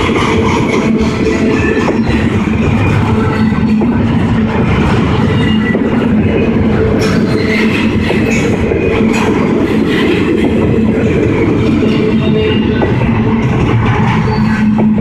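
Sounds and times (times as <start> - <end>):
train wheels rumbling on rails: 0.0 - 15.0
wheels clicking over rail joints: 0.0 - 15.0.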